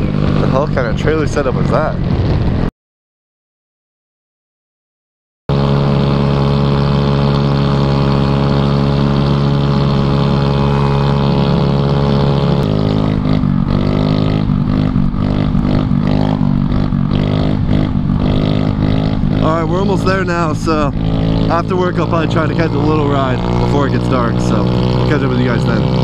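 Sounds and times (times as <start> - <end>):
scooter engine revving: 0.0 - 2.5, 5.5 - 26.0.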